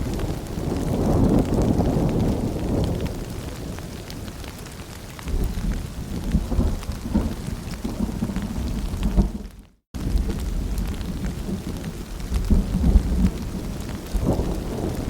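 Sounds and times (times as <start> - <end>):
rumble of thunder: 0.0 - 4.6, 5.3 - 15.0
steady rain: 0.0 - 15.0.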